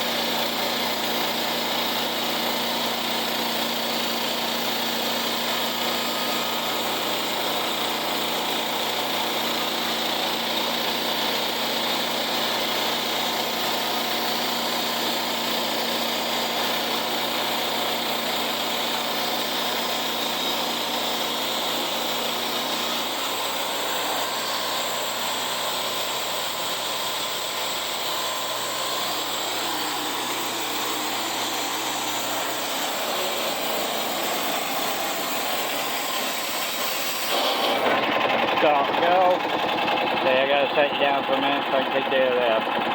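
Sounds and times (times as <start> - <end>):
sawmill cutting log: 0.0 - 42.9.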